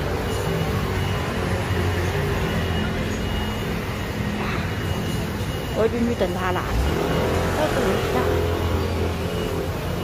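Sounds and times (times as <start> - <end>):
traffic engine rumble: 0.0 - 10.0.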